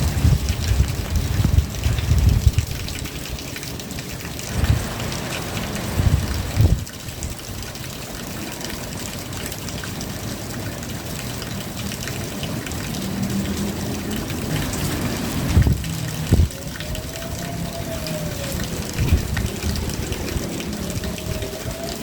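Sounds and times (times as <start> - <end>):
steady rain: 0.0 - 22.0
water trickling: 0.0 - 22.0.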